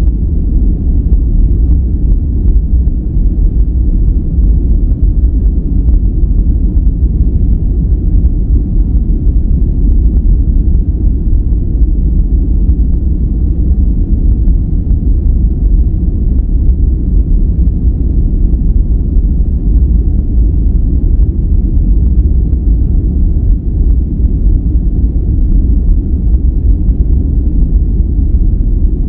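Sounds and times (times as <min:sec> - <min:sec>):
deep steady brown noise: 0:00.0 - 0:29.0.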